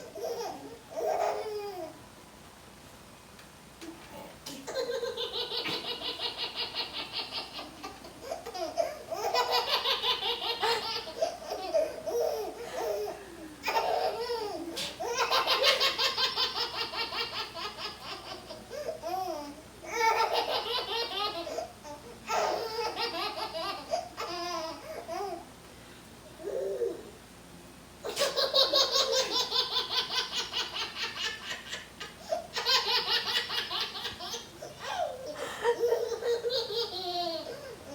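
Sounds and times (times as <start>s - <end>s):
baby laughing: 0.0s - 1.9s, 4.5s - 25.4s, 28.0s - 37.9s.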